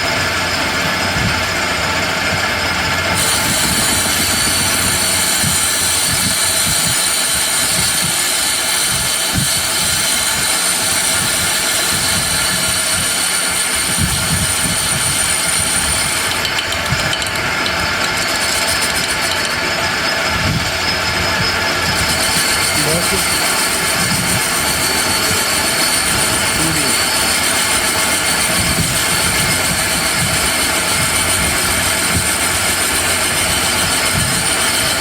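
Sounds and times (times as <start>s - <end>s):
lathe high-pitched metallic whine: 0.0s - 35.0s.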